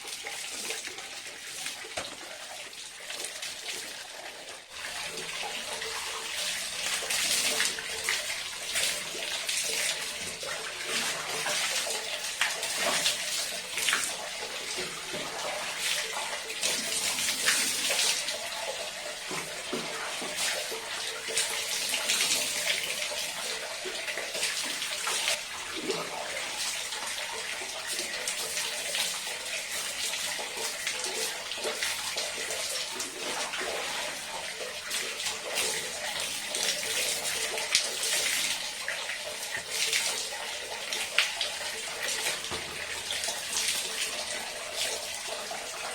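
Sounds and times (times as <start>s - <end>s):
water running and splashing: 0.0s - 45.9s.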